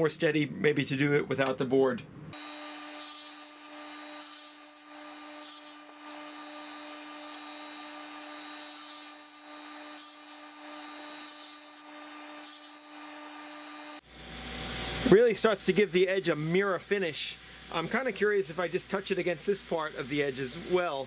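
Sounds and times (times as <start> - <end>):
bench grinder humming: 2.4 - 21.0.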